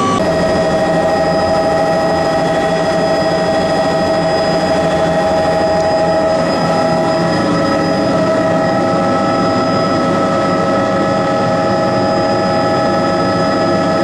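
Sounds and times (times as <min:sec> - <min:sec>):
helicopter engine and rotor: 0:00.0 - 0:14.0.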